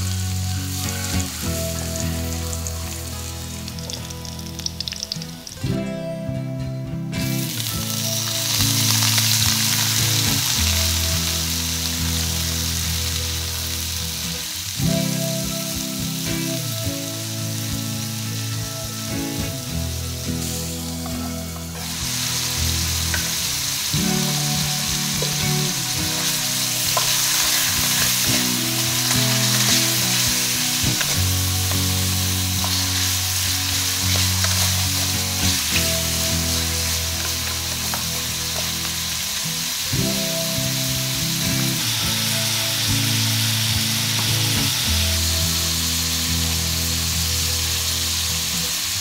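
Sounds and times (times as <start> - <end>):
chicken sizzling in hot oil: 0.0 - 5.8, 7.2 - 49.0
background music: 0.0 - 49.0.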